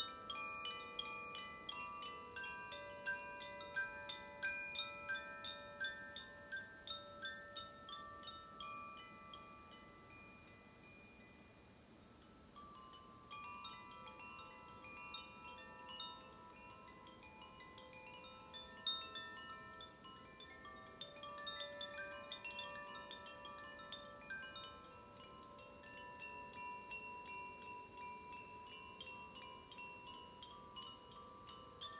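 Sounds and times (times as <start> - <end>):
wind chimes ringing: 0.0 - 31.9.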